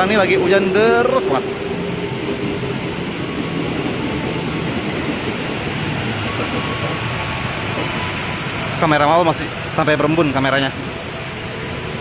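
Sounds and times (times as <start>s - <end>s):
electric trains running: 0.0s - 12.0s
heavy rain on roof: 1.9s - 12.0s.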